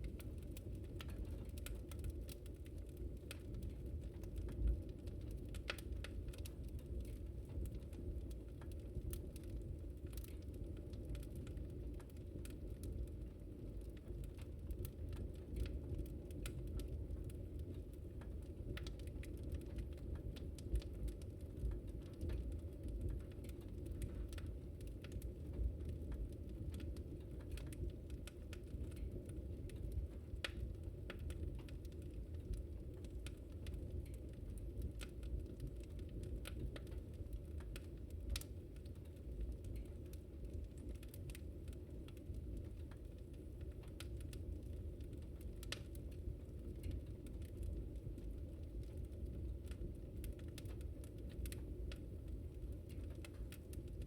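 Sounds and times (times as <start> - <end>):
burning wood crackling: 0.0 - 54.0
low rumble of flames: 0.0 - 54.0.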